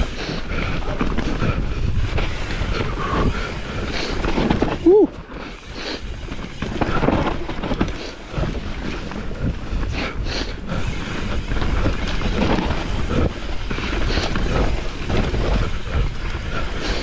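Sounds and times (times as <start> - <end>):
mountain bike clattering: 0.0 - 17.0
tyre noise: 0.0 - 17.0.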